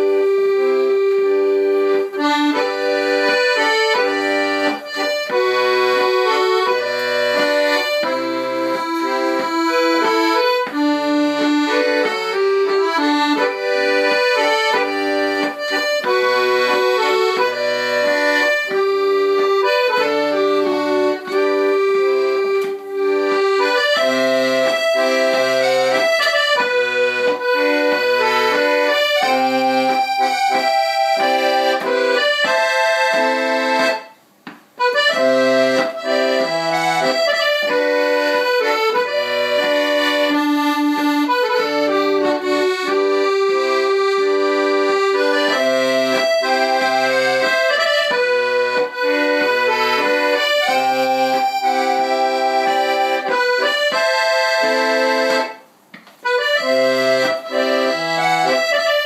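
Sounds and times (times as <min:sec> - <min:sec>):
accordion playing dance tune: 0:00.0 - 0:59.0.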